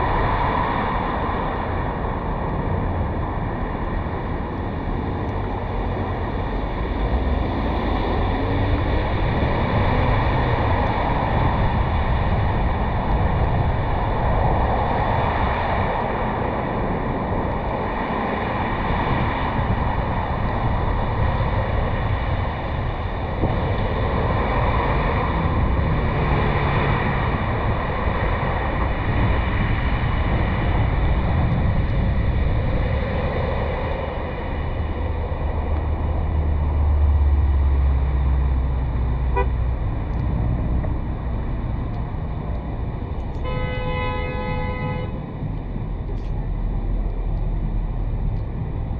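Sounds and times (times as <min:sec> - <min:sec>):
wind buffeting microphone: 0:00.0 - 0:43.4
car road and wind noise: 0:00.0 - 0:48.9.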